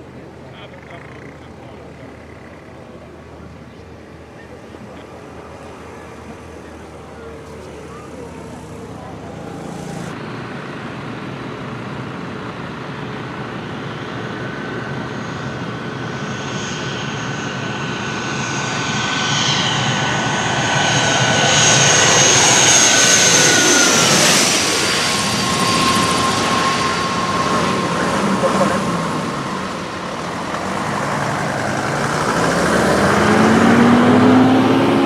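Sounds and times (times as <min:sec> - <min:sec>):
jet engines passing overhead: 0:00.0 - 0:35.0.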